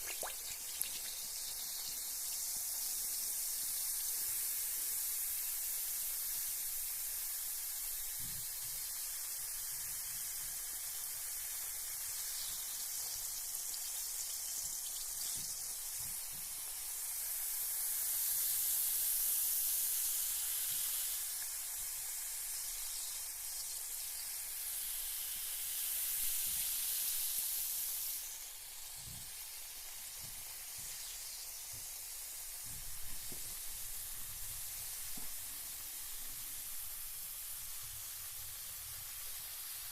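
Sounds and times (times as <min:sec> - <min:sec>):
bath bomb fizzing in water: 0:00.0 - 0:39.9.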